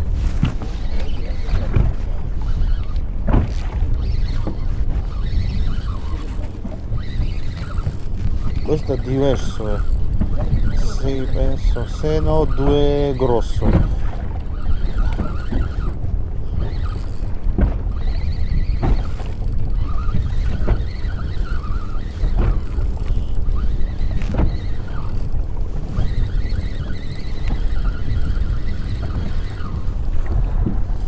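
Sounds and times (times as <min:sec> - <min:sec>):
water slapping boat hull: 0:00.0 - 0:31.0
wind on microphone: 0:00.0 - 0:31.0.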